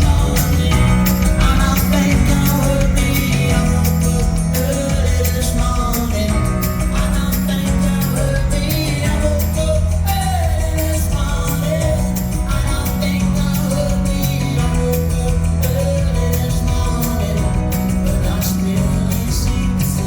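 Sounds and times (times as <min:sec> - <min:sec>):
lead vocal singing: 0:00.0 - 0:20.0
live band playing: 0:00.0 - 0:20.0.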